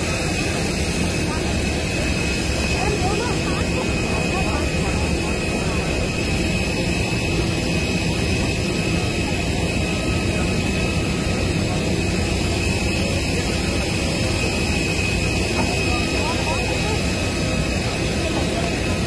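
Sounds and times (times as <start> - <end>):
aircraft turbine engines roaring: 0.0 - 19.0
high turbine whine: 0.0 - 19.0.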